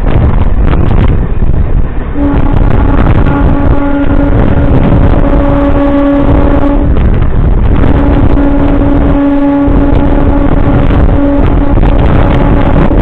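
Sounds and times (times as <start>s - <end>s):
electric train rumbling: 0.0s - 13.0s
steady humming tone: 0.0s - 13.0s.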